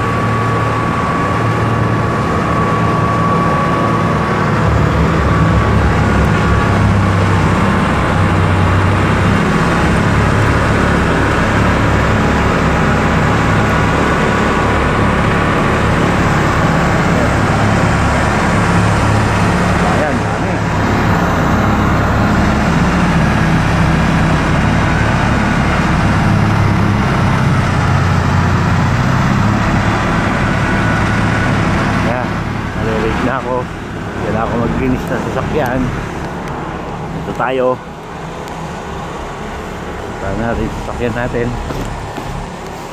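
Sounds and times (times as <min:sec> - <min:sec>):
low engine rumble: 0:00.0 - 0:42.9
thin steady whine: 0:00.0 - 0:42.9.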